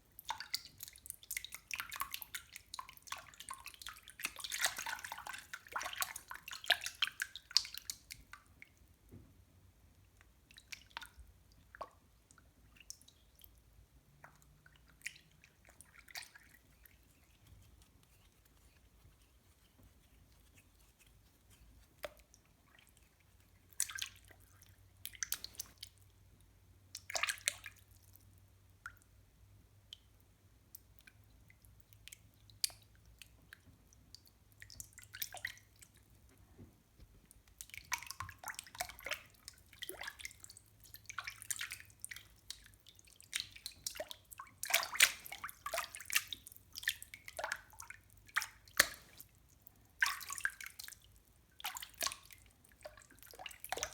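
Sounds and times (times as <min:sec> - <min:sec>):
water dripping: 0:00.1 - 0:09.2, 0:10.1 - 0:29.2, 0:29.8 - 0:53.9.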